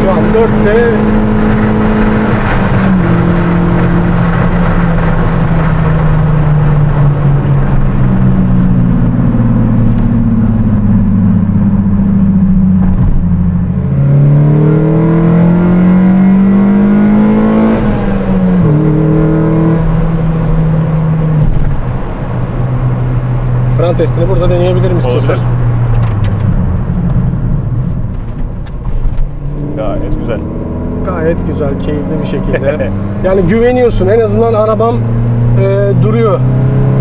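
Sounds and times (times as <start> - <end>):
car engine accelerating: 0.0 - 37.0
road noise: 0.0 - 37.0.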